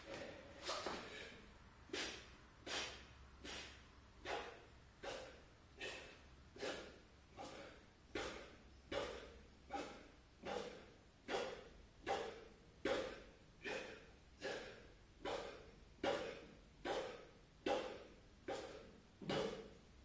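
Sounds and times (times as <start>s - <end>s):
man breathing hard: 0.0s - 19.7s.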